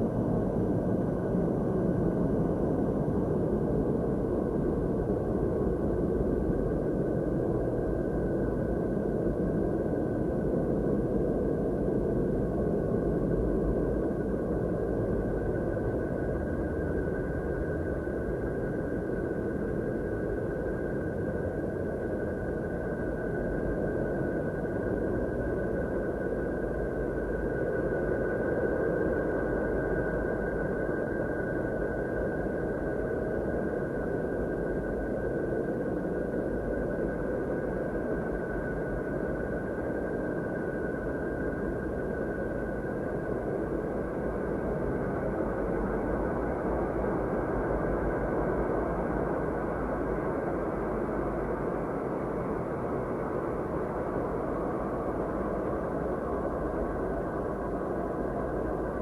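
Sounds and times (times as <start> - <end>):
steady noise drone: 0.0 - 59.0.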